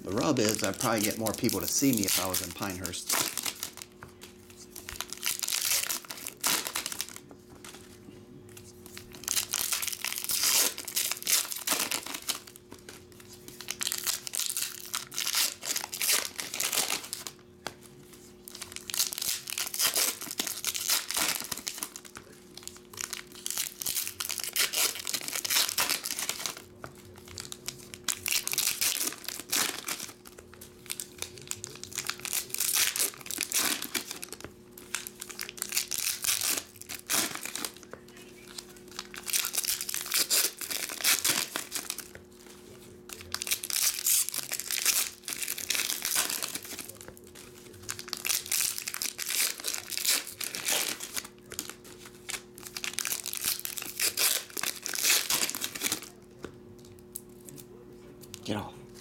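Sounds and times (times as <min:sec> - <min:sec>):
foil wrappers tearing and crinkling: 0:00.1 - 0:07.8, 0:08.8 - 0:56.2.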